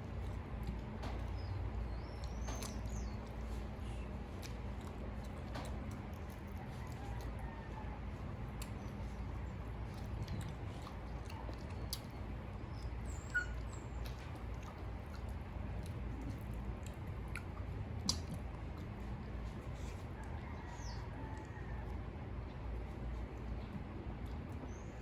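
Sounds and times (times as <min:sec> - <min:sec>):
person chewing food: 0:00.0 - 0:24.6
steady low hum: 0:00.0 - 0:25.0.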